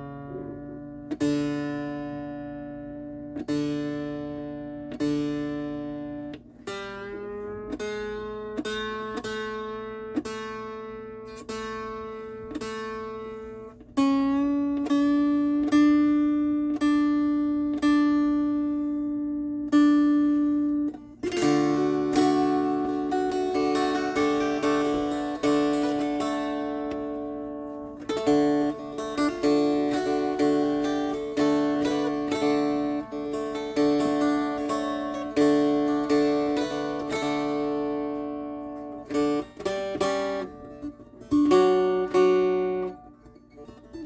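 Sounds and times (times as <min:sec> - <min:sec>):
mountain dulcimer picking: 0:00.0 - 0:44.0.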